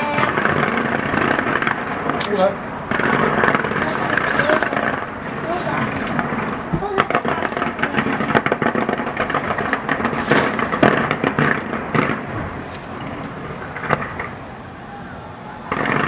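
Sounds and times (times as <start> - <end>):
fireworks crackling bangs: 0.0 - 16.0.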